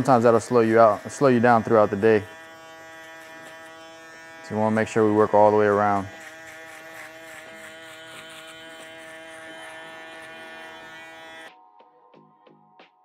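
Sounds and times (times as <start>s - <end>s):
electric shaver buzzing: 0.0s - 11.5s.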